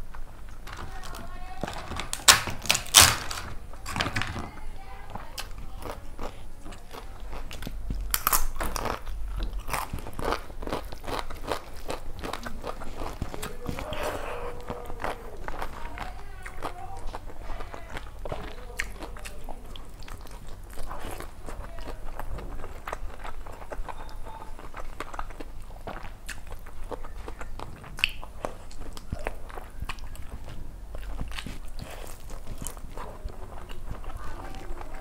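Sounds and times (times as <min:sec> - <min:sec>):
person chewing food: 0:04.4 - 0:35.0.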